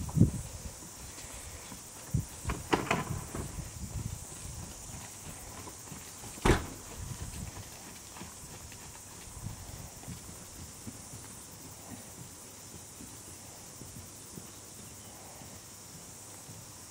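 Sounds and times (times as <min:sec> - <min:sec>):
hoofbeats on sand: 0:00.0 - 0:16.9
steady high hiss: 0:00.0 - 0:16.9.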